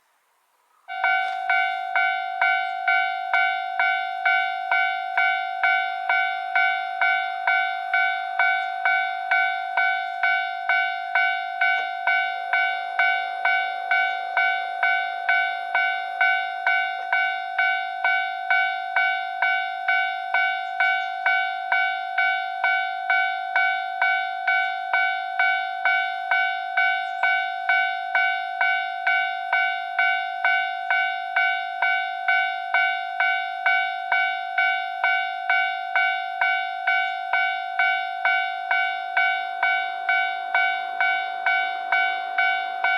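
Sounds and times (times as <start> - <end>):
level-crossing warning bell: 0.9 - 42.9.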